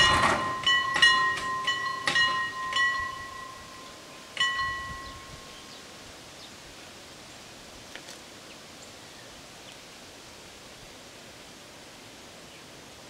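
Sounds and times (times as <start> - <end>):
soft rustling hiss: 0.9 - 13.0.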